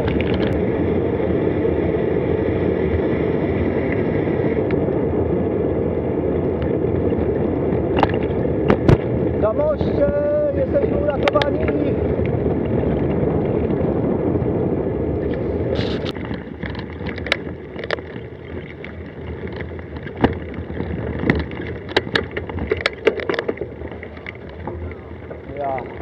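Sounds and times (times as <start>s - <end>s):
bicycle clicks and rattles: 0.0s - 0.6s, 3.8s - 14.4s, 15.1s - 26.0s
tyre rumble: 0.0s - 26.0s
wind on microphone: 0.0s - 26.0s.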